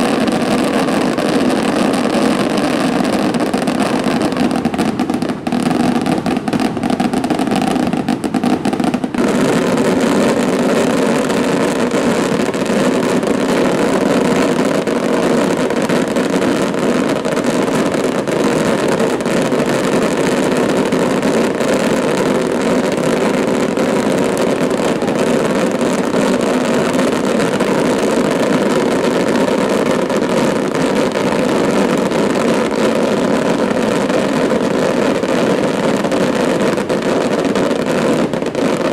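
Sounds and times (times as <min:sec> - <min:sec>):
firecrackers crackling rapidly: 0:00.0 - 0:38.9.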